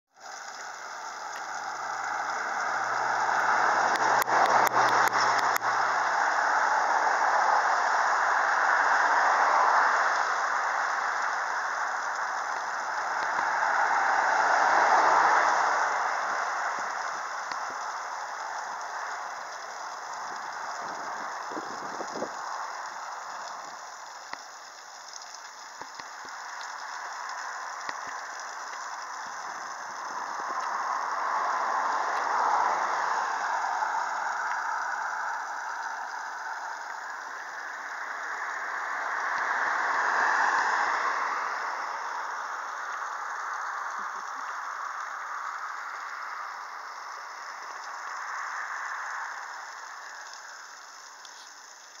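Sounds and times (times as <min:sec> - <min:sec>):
car road and wind noise: 0:00.6 - 0:23.8, 0:25.8 - 0:50.6.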